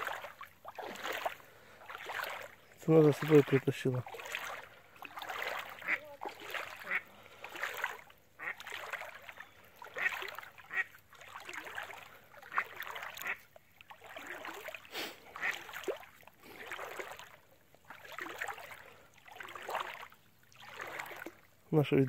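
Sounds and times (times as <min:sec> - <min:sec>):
dog splashing through water: 0:00.0 - 0:21.5.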